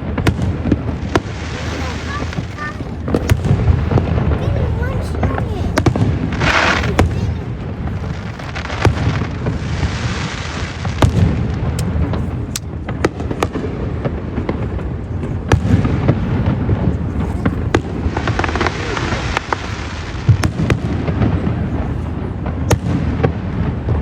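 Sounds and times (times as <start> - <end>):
crackling hiss of fireworks: 0.0 - 24.0
fireworks bangs and pops: 0.0 - 24.0.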